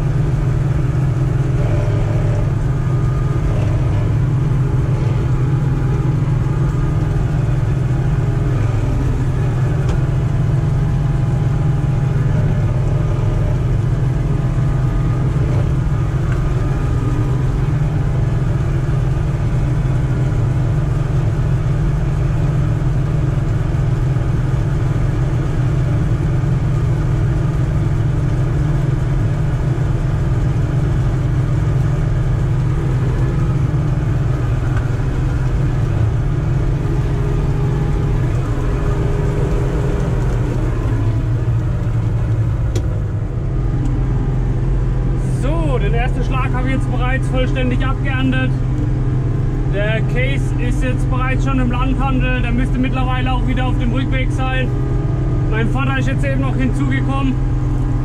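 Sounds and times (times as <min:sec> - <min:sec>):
combine harvester engine drone: 0:00.0 - 0:58.0
machinery hum: 0:00.0 - 0:58.0.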